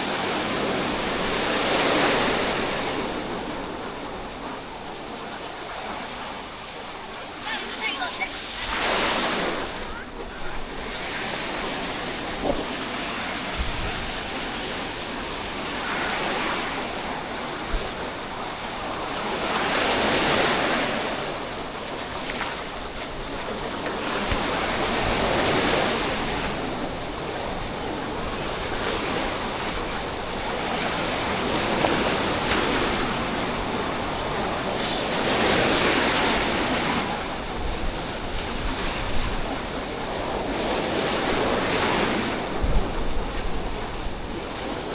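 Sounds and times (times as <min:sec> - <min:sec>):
sea waves breaking on beach: 0:00.0 - 0:44.9
wind buffeting microphone: 0:00.0 - 0:44.9.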